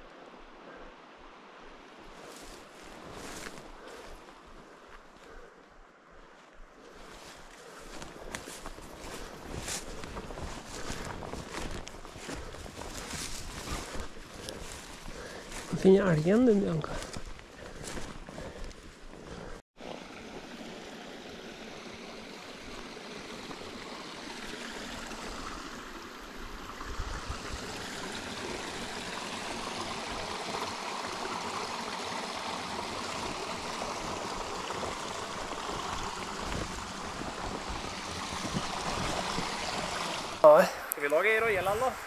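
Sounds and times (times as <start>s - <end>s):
brook running over rocks: 0.0s - 42.0s.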